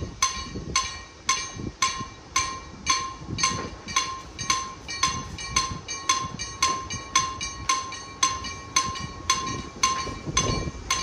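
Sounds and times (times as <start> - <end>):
level crossing warning bell: 0.0 - 11.0
rail vehicle rumbling: 0.0 - 11.0.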